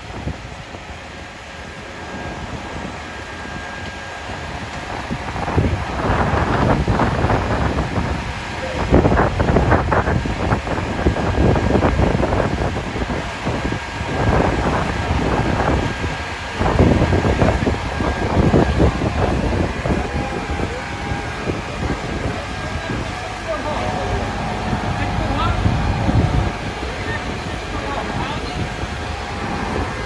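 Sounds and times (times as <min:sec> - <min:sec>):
wind buffeting microphone: 0:00.0 - 0:30.0
steady low rumble: 0:04.3 - 0:30.0.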